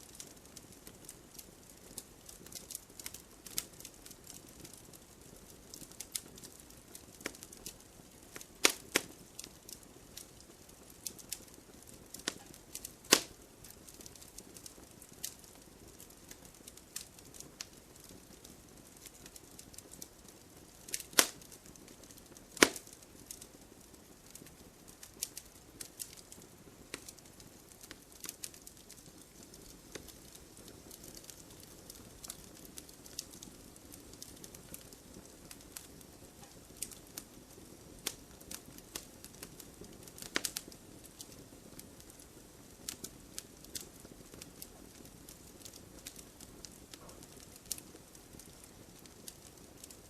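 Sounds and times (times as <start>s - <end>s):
firewood crackling and popping: 0.0s - 50.0s.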